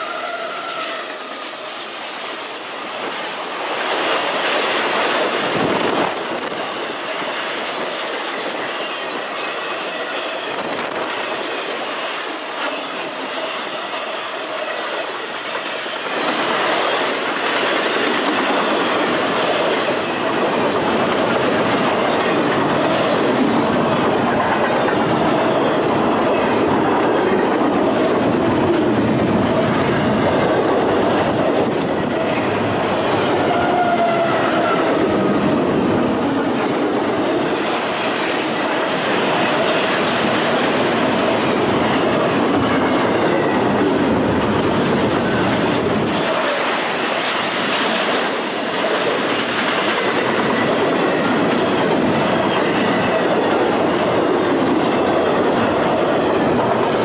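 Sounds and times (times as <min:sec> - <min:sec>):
train wheels rumbling and clattering: 0:00.0 - 0:57.0.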